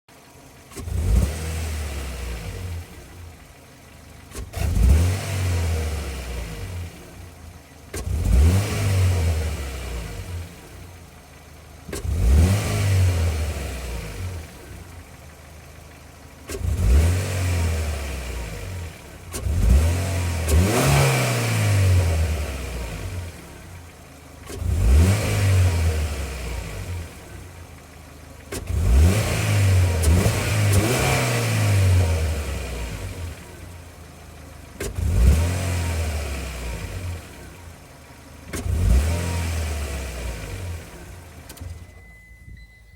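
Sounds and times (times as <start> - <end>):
misfiring car engine revving: 0.2 - 41.9.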